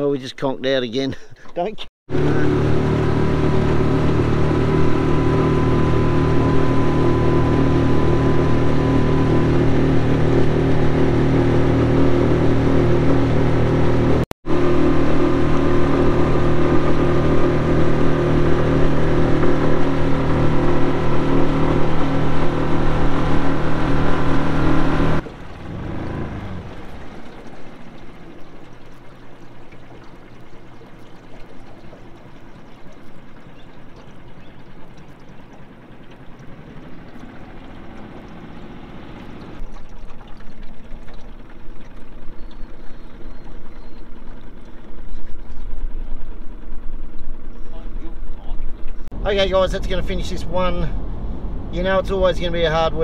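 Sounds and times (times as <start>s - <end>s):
outboard motor running: 1.1s - 53.0s.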